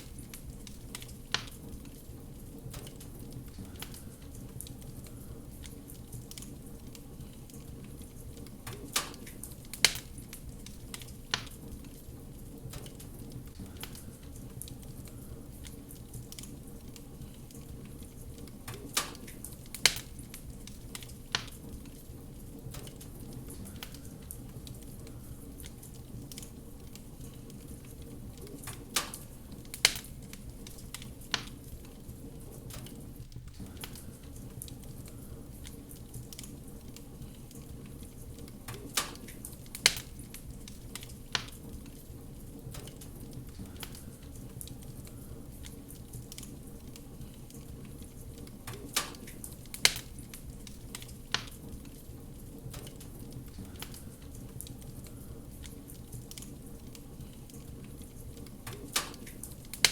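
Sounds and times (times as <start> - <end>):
sharp pops of burning wood: 0.0 - 32.0, 32.6 - 59.9
wood fire crackling: 0.0 - 59.9.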